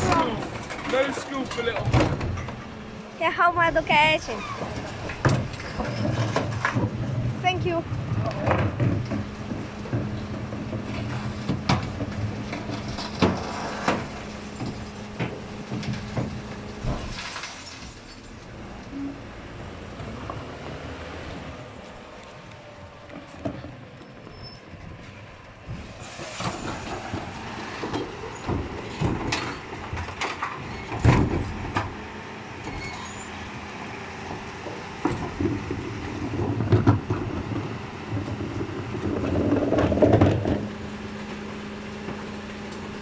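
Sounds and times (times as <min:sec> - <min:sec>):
truck engine running: 0:00.0 - 0:43.0.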